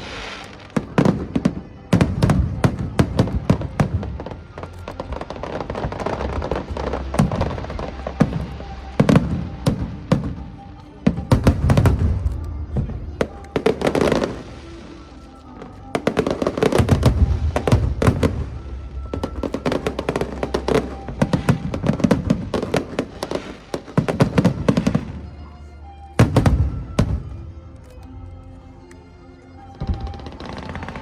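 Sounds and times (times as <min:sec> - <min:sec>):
fireworks bursting and crackling: 0:00.0 - 0:25.3, 0:26.2 - 0:27.8, 0:29.7 - 0:31.0
music: 0:00.0 - 0:31.0.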